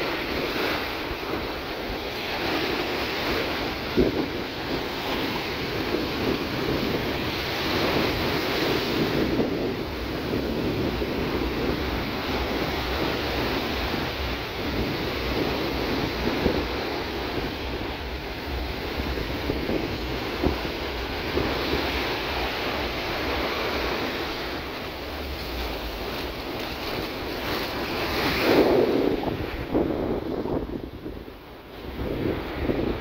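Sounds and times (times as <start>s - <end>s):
surf breaking on beach: 0.0s - 33.0s
wind on microphone: 0.0s - 33.0s.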